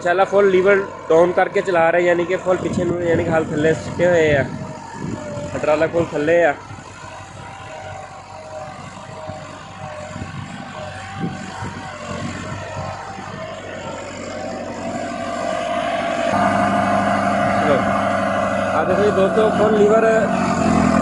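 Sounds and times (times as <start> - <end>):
tractor diesel engine labouring: 0.0 - 21.0.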